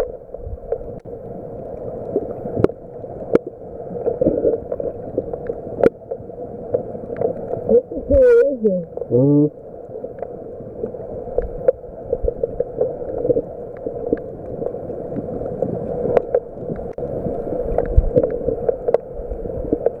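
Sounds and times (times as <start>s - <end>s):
sharp clicks and crackles: 0.0s - 8.0s, 9.8s - 20.0s
muffled underwater rushing: 0.0s - 20.0s.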